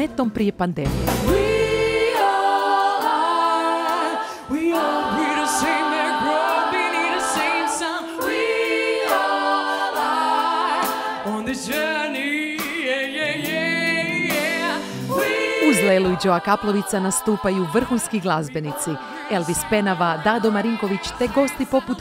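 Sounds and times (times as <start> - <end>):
choir singing a cappella: 1.1 - 22.0.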